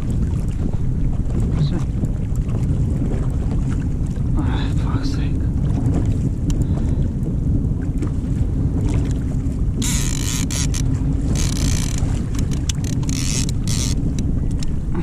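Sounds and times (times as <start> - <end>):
water splashing against kayak: 0.0 - 15.0
wind buffeting microphone: 0.0 - 15.0.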